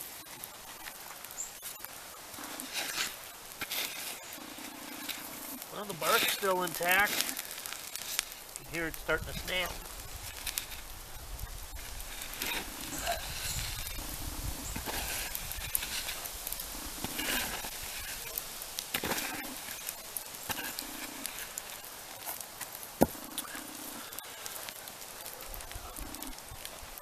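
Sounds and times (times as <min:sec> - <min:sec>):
hand scraping dry dirt: 0:00.0 - 0:27.0
small crackles and snaps: 0:00.0 - 0:27.0.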